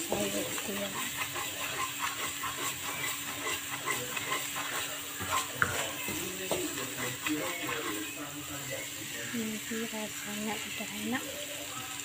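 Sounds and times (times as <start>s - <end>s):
paste sizzling in oil: 0.0s - 12.0s
wooden spoon stirring and scraping: 0.0s - 12.0s.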